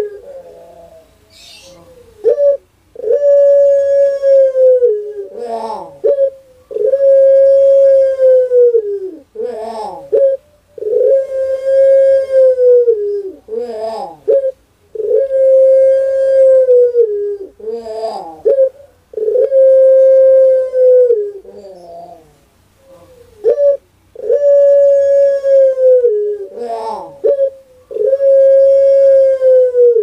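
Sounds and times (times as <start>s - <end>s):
dove cooing: 0.0s - 30.0s.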